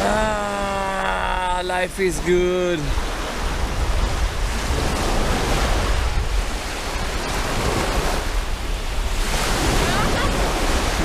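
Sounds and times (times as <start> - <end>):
sea waves washing in: 0.0 - 11.0
wind buffeting microphone: 0.0 - 11.0.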